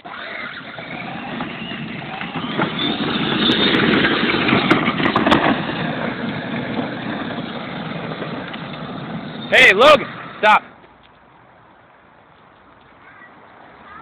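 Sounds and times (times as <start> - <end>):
toy car rolling on asphalt: 0.0 - 14.0.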